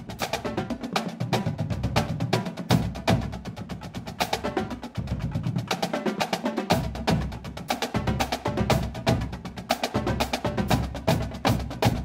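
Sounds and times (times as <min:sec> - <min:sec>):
music with fast percussion beat: 0:00.0 - 0:12.0.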